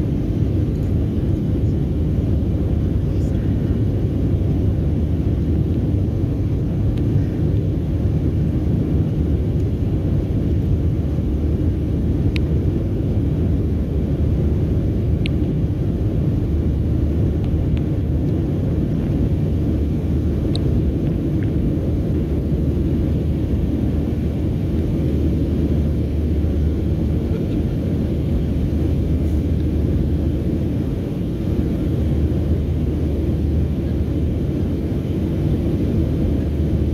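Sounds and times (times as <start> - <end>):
jet engines and rushing air: 0.0 - 36.9.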